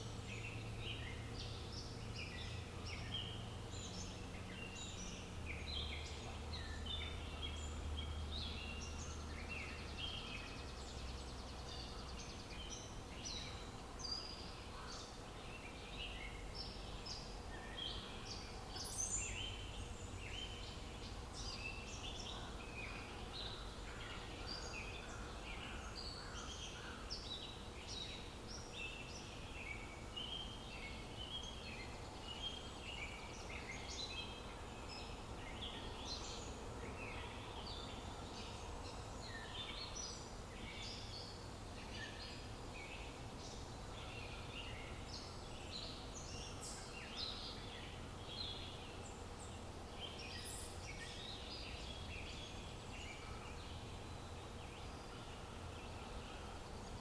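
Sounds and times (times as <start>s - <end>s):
low outdoor hum: 0.0s - 57.0s
songbirds chirping: 0.0s - 57.0s.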